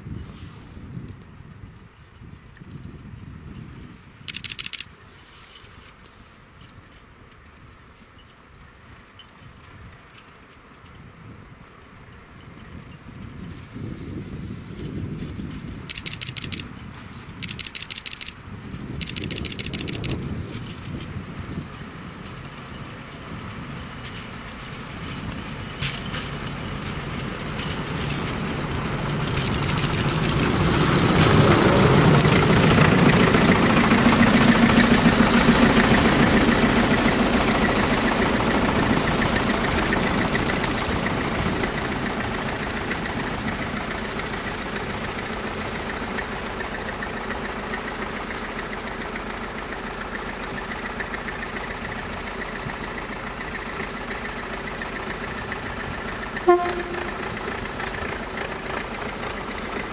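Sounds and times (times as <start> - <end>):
railcar diesel engine passing: 0.0 - 59.9.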